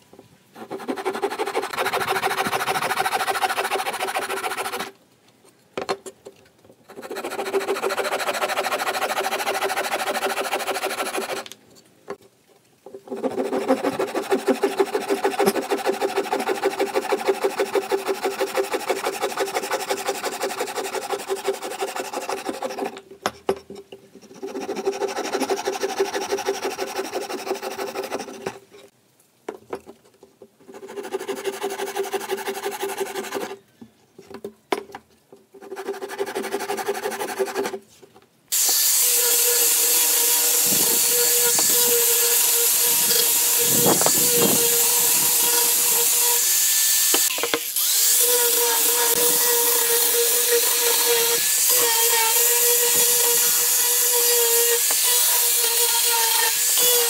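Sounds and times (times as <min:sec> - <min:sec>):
hand saw cutting wood: 0:00.6 - 0:05.0, 0:06.9 - 0:11.5, 0:13.0 - 0:23.1, 0:24.2 - 0:28.9, 0:30.6 - 0:33.6, 0:35.6 - 0:37.8, 0:38.6 - 0:57.0.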